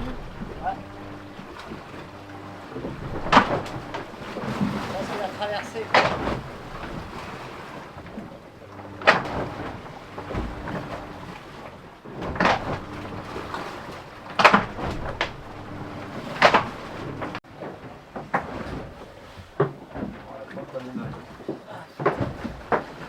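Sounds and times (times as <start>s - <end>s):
sharp knocks and bangs on yacht: 0.0s - 8.3s, 8.9s - 23.0s
faint machinery hum: 0.0s - 23.0s.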